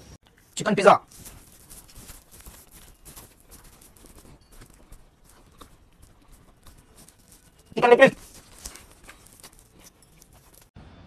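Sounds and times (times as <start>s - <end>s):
chewing food: 0.2s - 10.8s.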